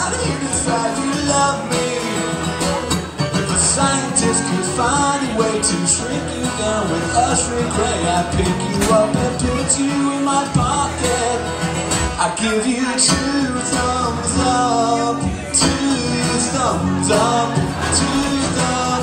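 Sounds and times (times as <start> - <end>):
acoustic guitar strumming: 0.0 - 19.0
man singing: 0.0 - 19.0.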